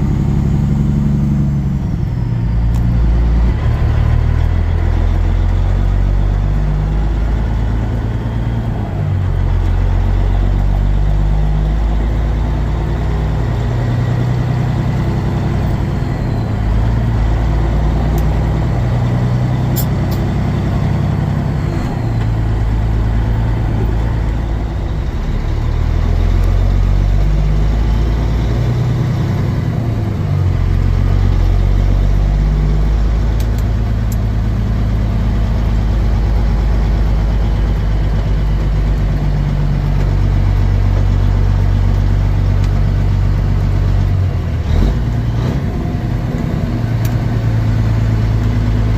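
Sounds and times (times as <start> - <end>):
heavy truck engine drone: 0.0 - 48.9
road noise: 0.0 - 48.9.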